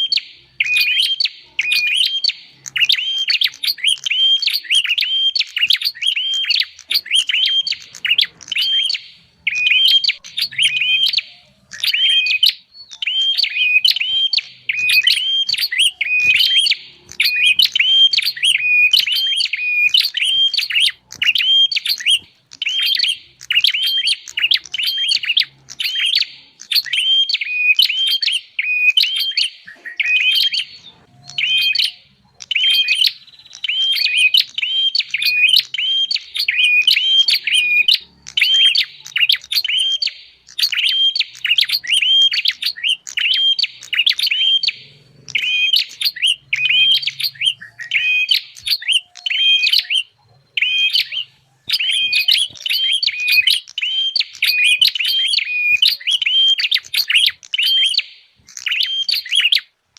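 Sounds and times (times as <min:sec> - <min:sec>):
bird high sharp chirping: 0:00.0 - 0:59.7.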